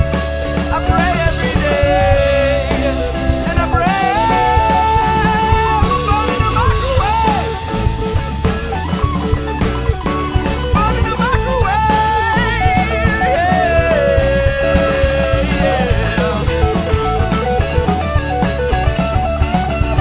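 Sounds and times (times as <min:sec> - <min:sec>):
drum kit beat: 0:00.0 - 0:20.0
guitar lead with bending notes: 0:00.0 - 0:20.0
rock band playing: 0:00.0 - 0:20.0.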